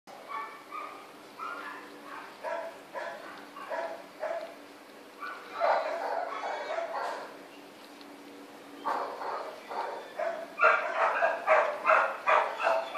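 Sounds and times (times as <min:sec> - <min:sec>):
dogs barking: 0:00.1 - 0:04.6, 0:05.2 - 0:07.4, 0:08.8 - 0:12.9.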